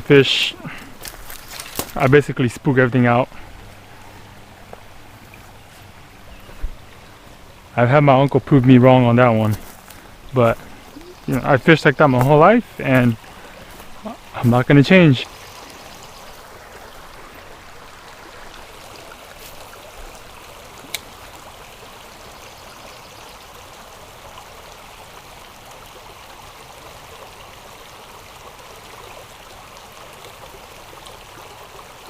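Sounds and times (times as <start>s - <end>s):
creek water over rocks: 0.0s - 32.0s.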